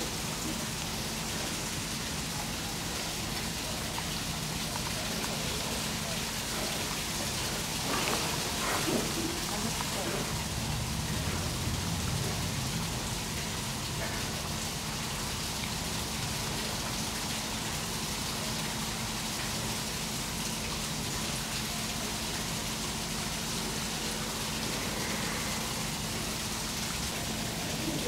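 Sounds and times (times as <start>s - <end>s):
hiss of falling water: 0.0s - 28.0s.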